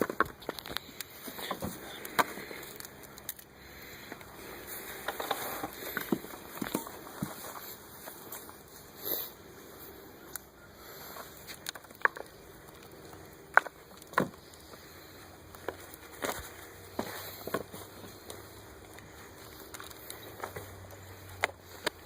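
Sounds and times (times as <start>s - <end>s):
hands sifting through soil: 0.0s - 22.0s.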